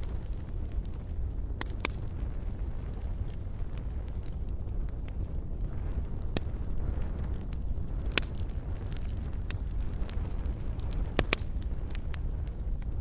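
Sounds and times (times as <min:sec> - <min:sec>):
fire crackling and popping: 0:00.0 - 0:13.0
low roar of flames: 0:00.0 - 0:13.0.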